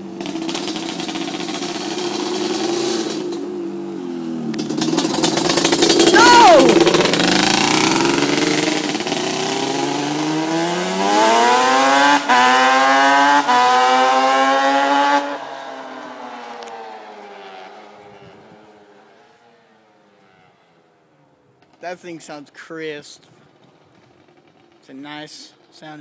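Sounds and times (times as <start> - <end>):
two-stroke engine accelerating: 0.0 - 20.8, 23.3 - 26.0.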